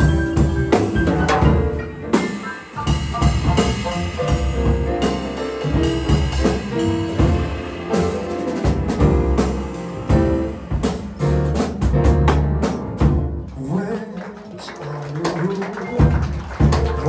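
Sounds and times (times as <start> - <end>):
jazz band playing: 0.0 - 13.8, 15.2 - 17.0
drum kit: 0.0 - 17.0.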